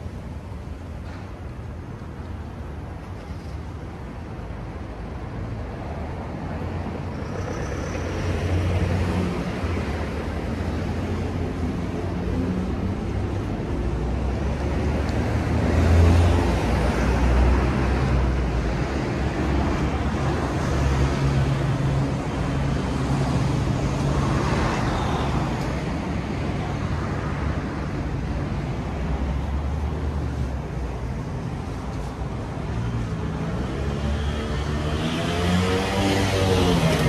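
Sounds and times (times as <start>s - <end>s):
cars passing by: 0.0s - 37.0s
low rumble of traffic: 0.0s - 37.0s.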